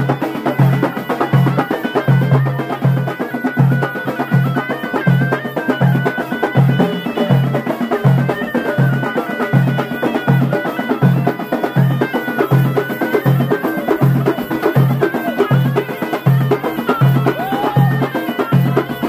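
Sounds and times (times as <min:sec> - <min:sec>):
reed shawm melody: 0:00.0 - 0:19.0.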